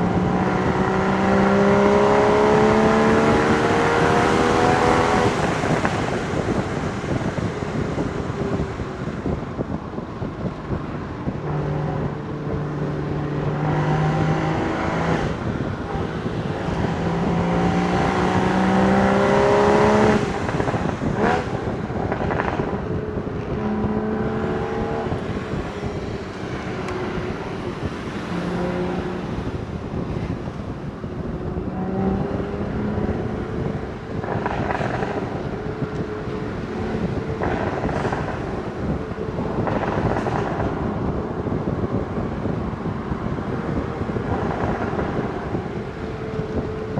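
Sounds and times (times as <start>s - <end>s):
car engine accelerating: 0.0s - 46.9s
wind noise: 0.0s - 46.9s.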